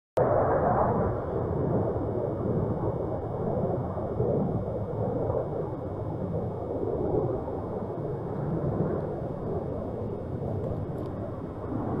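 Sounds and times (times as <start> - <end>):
jet engines rumbling: 0.2 - 12.0.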